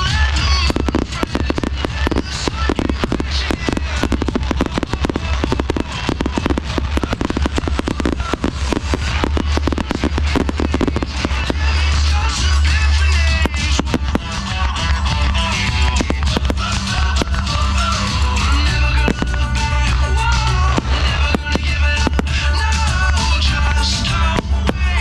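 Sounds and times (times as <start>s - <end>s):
fireworks bursting and crackling: 0.0s - 25.0s
low rumble: 0.0s - 25.0s.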